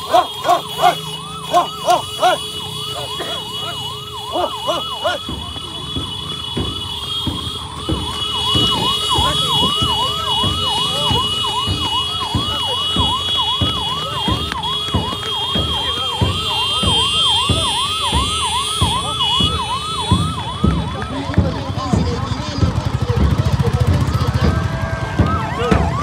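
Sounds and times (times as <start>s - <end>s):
electronic siren wailing: 0.0s - 22.1s, 24.4s - 26.0s.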